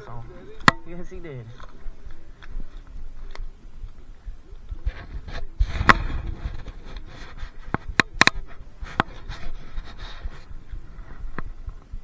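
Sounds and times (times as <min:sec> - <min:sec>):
rustling against microphone: 0:00.0 - 0:12.0.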